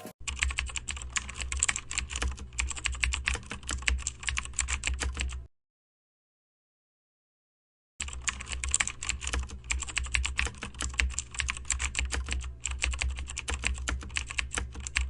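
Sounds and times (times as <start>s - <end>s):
rapid irregular clicking: 0.2s - 5.4s, 8.0s - 15.0s.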